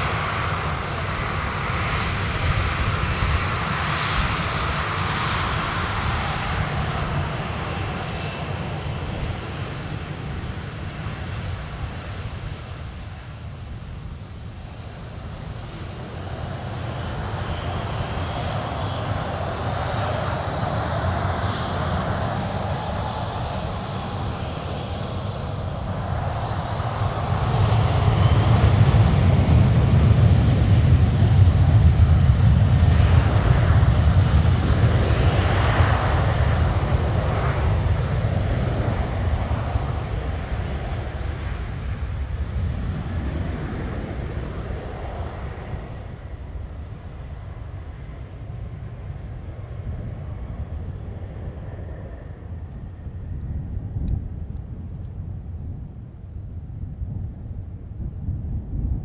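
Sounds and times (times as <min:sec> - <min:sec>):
jet engine low rumble: 0:00.0 - 0:59.0
jet engine whine: 0:00.0 - 0:59.0.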